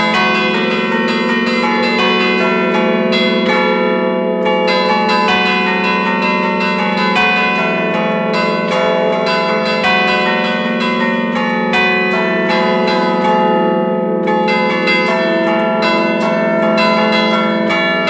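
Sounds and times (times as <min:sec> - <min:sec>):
church bells ringing melody: 0:00.0 - 0:18.0.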